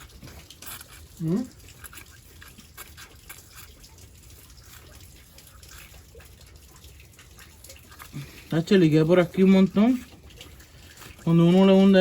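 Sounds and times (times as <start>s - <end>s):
gasoline dripping and trickling: 0.0s - 12.0s.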